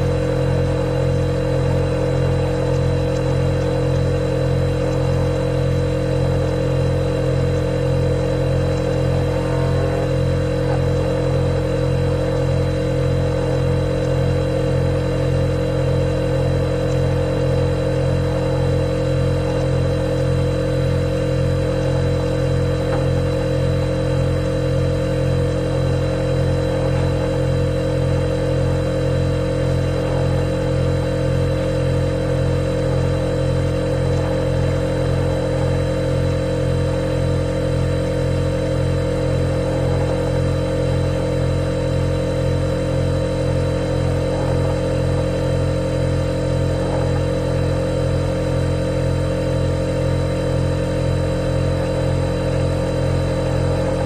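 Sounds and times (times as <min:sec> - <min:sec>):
refrigerator compressor humming: 0:00.0 - 0:54.0.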